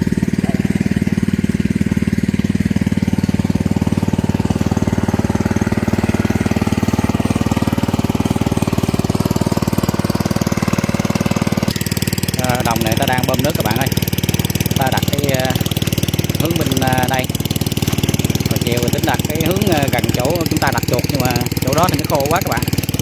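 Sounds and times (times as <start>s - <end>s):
low pulsing drone: 0.0s - 23.0s.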